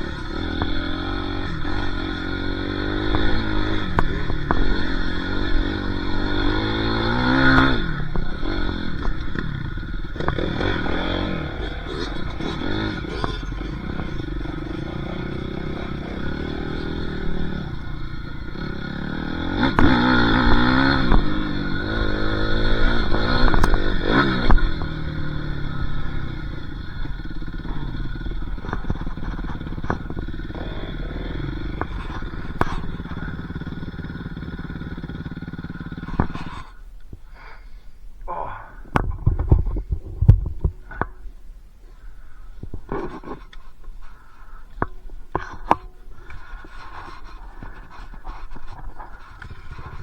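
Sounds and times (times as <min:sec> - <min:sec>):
dirt bike engine revving: 0:00.0 - 0:36.8, 0:44.1 - 0:50.0.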